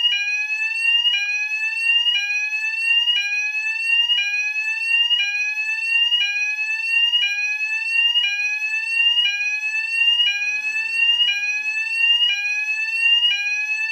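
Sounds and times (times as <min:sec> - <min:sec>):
fire alarm sweep tone: 0:00.0 - 0:13.9.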